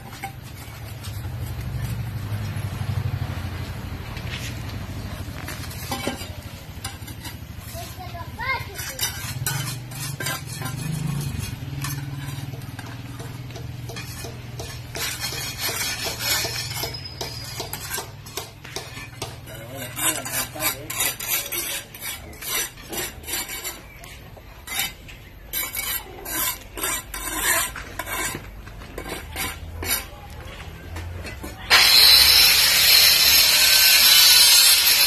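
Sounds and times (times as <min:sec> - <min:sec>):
trowel scraping and tapping mortar: 0:00.0 - 0:02.6, 0:04.1 - 0:35.0.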